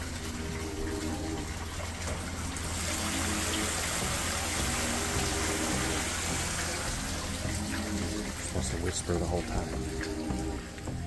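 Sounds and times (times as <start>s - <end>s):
fountain spout trickling: 0.0s - 11.0s.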